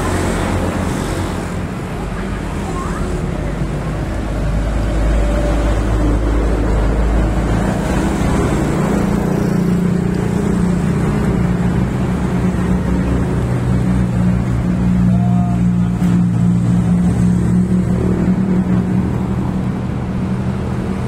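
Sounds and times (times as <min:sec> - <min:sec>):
road traffic noise: 0:00.0 - 0:21.0
vehicle engine rumbling: 0:00.0 - 0:21.0.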